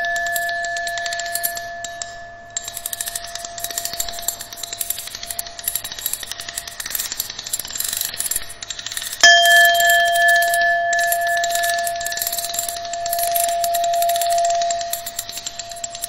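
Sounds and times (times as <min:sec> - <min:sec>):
bell-like chime: 0:00.0 - 0:08.4, 0:09.0 - 0:16.0
electronic crackling and clicking: 0:00.0 - 0:16.0
faint steady tone: 0:00.0 - 0:16.0.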